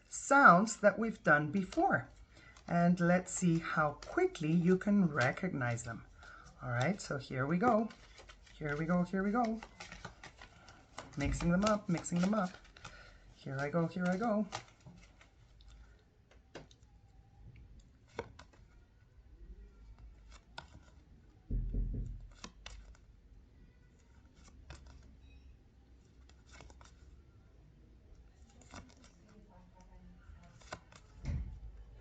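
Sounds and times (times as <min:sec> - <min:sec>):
paper cards rustling and clicking: 0:00.5 - 0:19.0, 0:19.6 - 0:27.4, 0:28.1 - 0:32.0.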